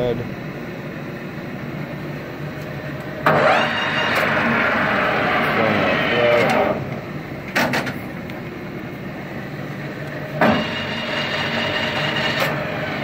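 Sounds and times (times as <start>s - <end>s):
lathe running: 1.0s - 13.0s.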